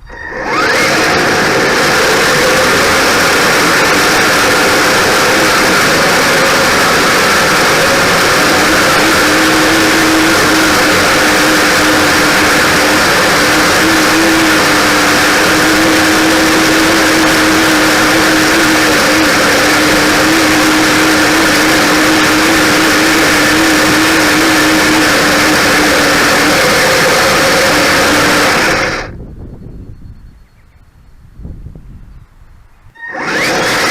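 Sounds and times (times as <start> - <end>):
toy vehicle motor and drivetrain: 0.0 - 29.1, 33.0 - 33.9.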